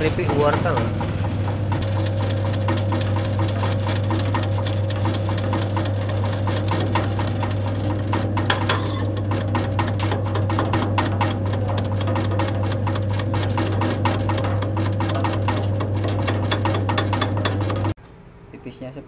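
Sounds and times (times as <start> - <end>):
rapid regular cutting clicks: 0.0 - 18.0
slicing machine motor humming: 0.0 - 18.0.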